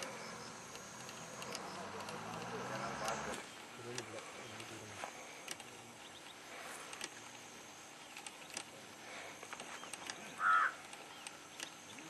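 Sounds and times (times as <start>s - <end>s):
light clicks and chirps: 0.0s - 8.8s, 9.4s - 12.0s.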